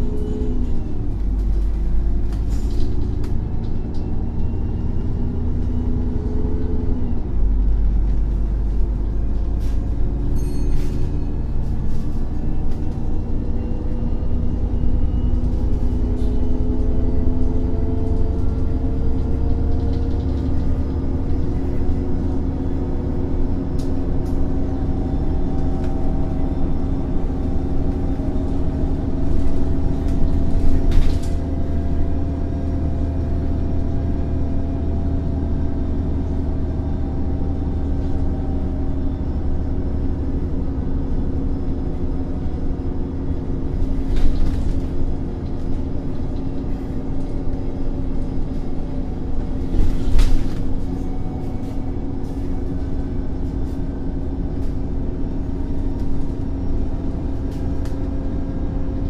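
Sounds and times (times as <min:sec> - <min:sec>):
bus engine hum: 0:00.0 - 0:59.0.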